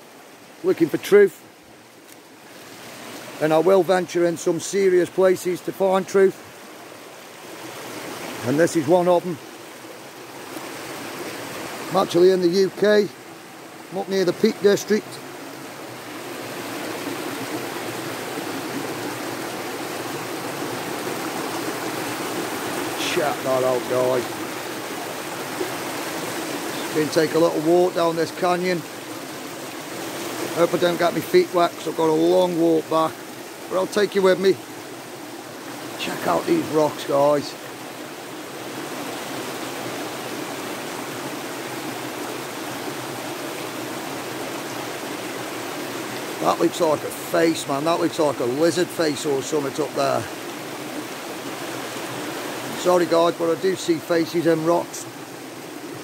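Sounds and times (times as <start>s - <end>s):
stream splashing over stones: 0.0s - 56.0s.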